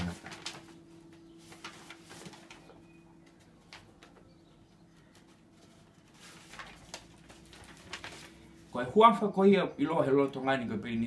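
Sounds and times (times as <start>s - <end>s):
paper rustling: 0.0s - 9.2s.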